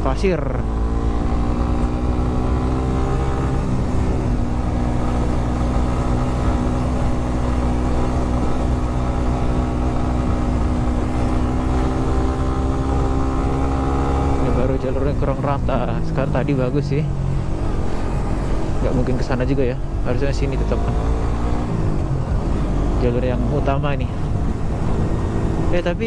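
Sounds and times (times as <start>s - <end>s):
motorcycle engine at steady revs: 0.0s - 26.0s.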